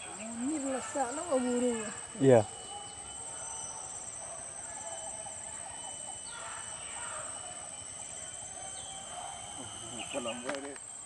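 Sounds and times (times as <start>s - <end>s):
faint wavering calls: 0.0s - 11.0s
insects trilling: 0.0s - 11.0s.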